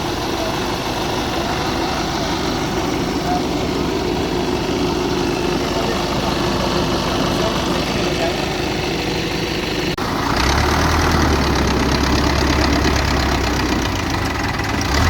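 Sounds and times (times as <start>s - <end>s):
tractor diesel engines running: 0.0s - 15.0s.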